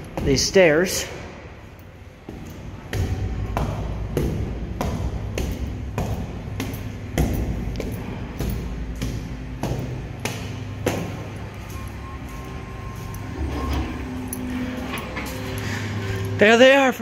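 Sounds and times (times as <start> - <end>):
footsteps climbing stairs: 0.0 - 17.0.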